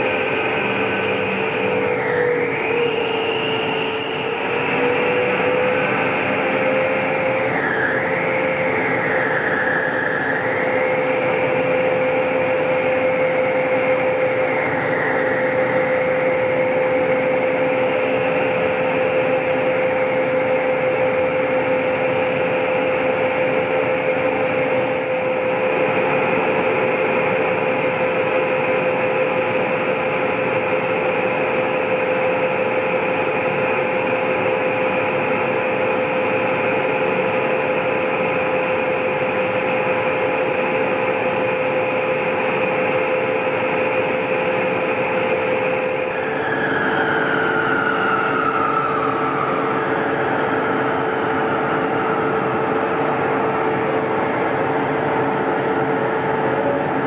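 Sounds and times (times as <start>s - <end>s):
machinery whine: 0.0s - 57.0s
tramway machinery humming: 0.0s - 57.0s.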